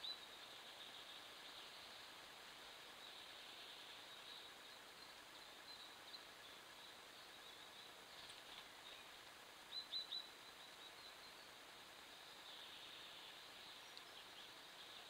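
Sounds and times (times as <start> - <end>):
quiet hiss: 0.0 - 15.0.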